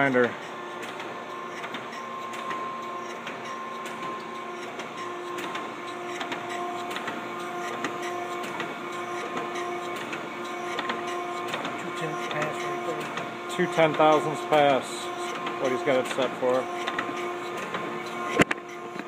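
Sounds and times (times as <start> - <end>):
grinder spindle whine: 0.0 - 19.0.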